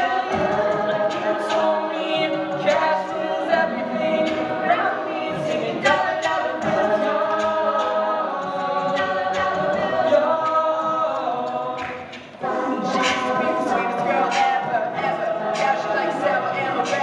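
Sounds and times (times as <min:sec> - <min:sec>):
a cappella group singing: 0:00.0 - 0:17.0.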